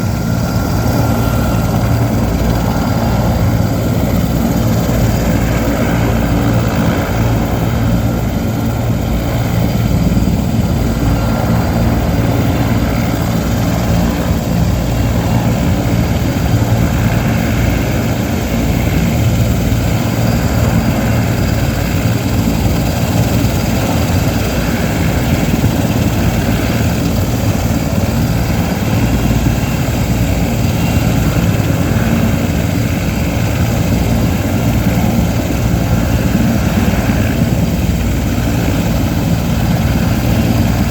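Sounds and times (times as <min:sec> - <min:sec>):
helicopter rotor beat: 0:00.0 - 0:40.9
turbine engine whine: 0:00.0 - 0:40.9.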